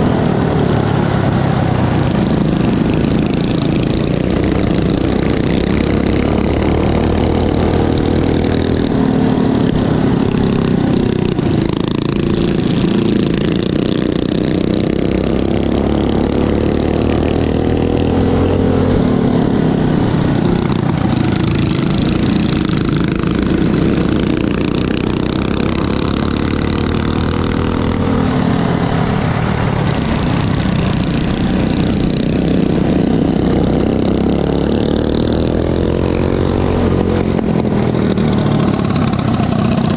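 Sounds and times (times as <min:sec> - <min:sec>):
mini bike engines racing: 0:00.0 - 0:39.9.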